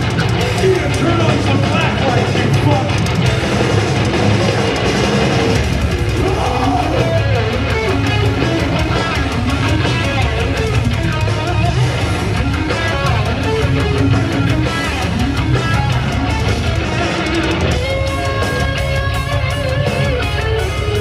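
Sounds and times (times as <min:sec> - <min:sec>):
heavy metal band playing live: 0:00.0 - 0:21.0.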